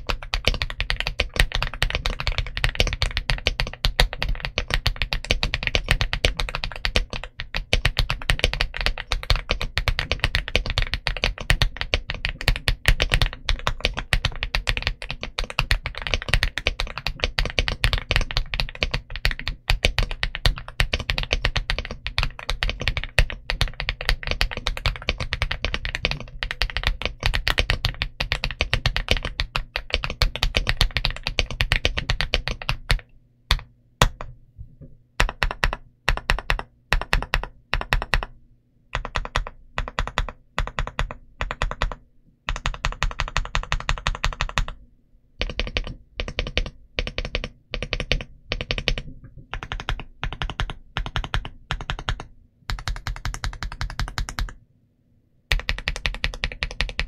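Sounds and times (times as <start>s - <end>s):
mechanical keyboard typing: 0.0s - 34.3s, 35.2s - 44.8s, 45.4s - 54.6s, 55.5s - 57.0s.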